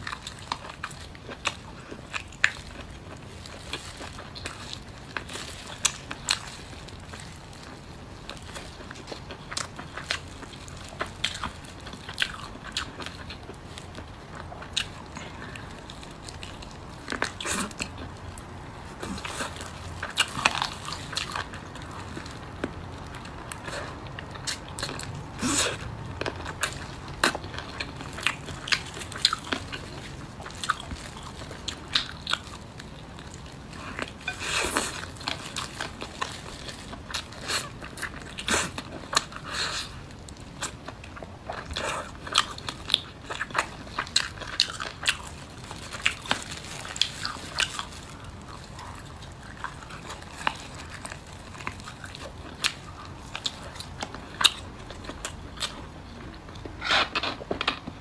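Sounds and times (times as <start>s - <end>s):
chewing and biting chicken: 0.0s - 58.0s.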